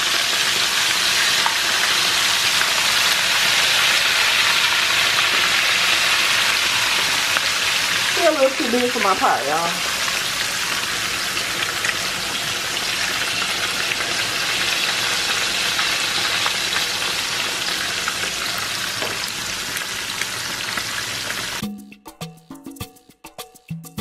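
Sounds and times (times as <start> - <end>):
fish deep-frying in hot oil: 0.0 - 21.6.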